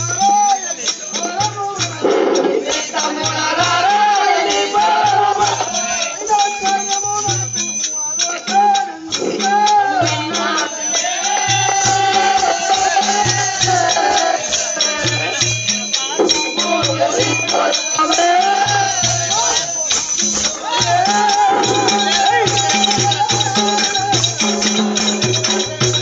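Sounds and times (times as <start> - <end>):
jingling rattle percussion: 0.0 - 26.0
steady drum beat: 0.0 - 26.0.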